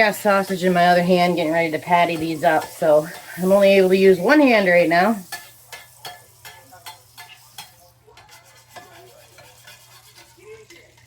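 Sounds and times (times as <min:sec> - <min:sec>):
food frying on a griddle: 0:00.0 - 0:11.0.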